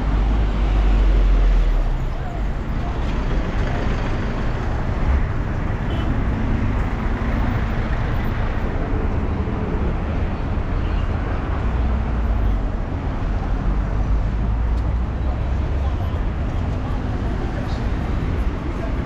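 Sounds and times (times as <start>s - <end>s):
low rumble of road traffic: 0.0s - 19.0s.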